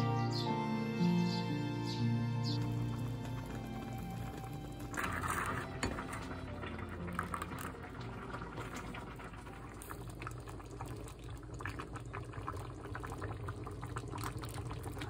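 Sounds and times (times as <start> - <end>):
sauce bubbling in a pot: 2.6 - 15.0.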